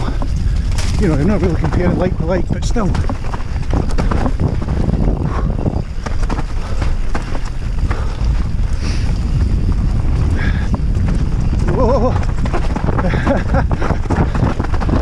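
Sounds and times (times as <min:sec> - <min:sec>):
tyre rumble on dirt: 0:00.0 - 0:15.0
wind buffeting microphone: 0:00.0 - 0:15.0.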